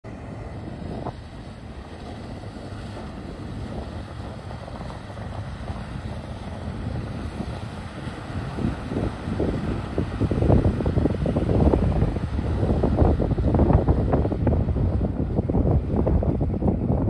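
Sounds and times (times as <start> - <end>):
outboard motor rumble: 0.0 - 17.0
wind buffeting microphone: 0.0 - 17.0.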